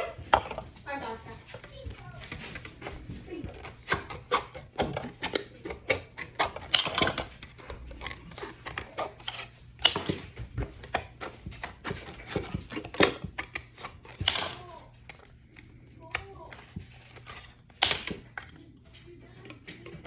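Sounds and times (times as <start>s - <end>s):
plastic parts clicking and snapping: 1.6s - 20.0s.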